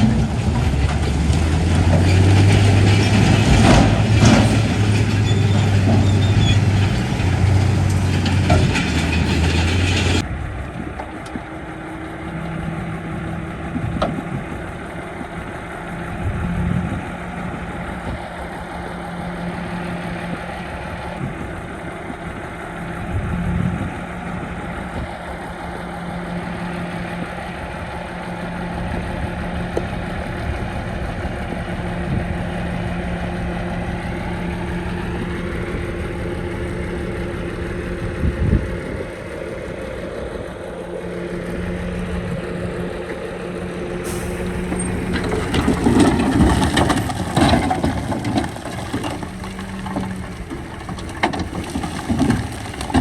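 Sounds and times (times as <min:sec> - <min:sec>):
heavy diesel engines running: 0:00.0 - 0:53.0.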